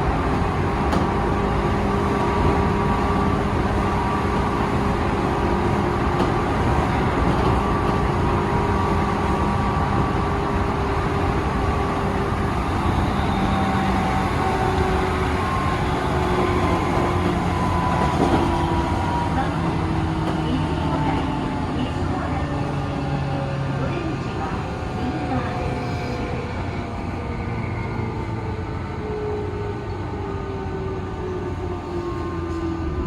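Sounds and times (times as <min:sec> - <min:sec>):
electric train rumble: 0:00.0 - 0:33.0.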